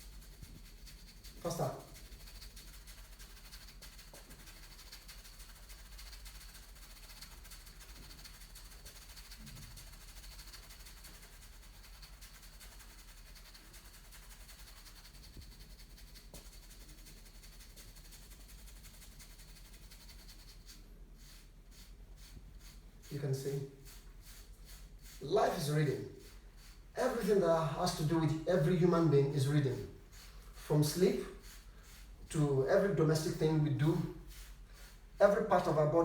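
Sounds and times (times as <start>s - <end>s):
hairbrush stroking through hair: 0.0s - 10.4s, 15.0s - 36.0s.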